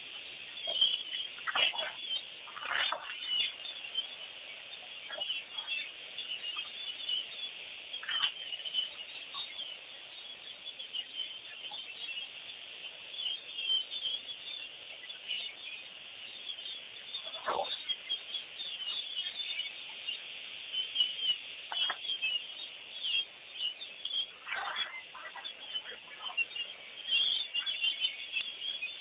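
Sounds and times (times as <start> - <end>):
steady high-pitched hiss: 0.0 - 29.0
wild birds chirping and calling: 0.0 - 29.0.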